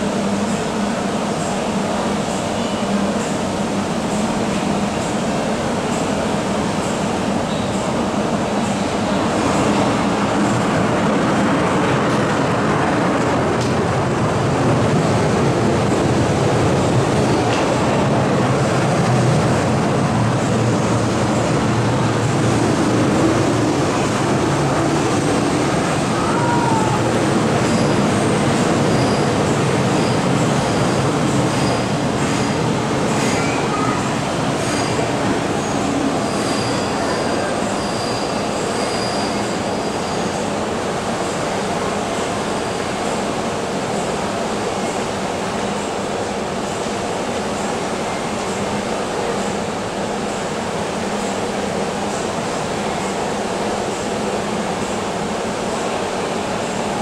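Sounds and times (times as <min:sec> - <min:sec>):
metro train passing through station: 0:00.0 - 0:57.0.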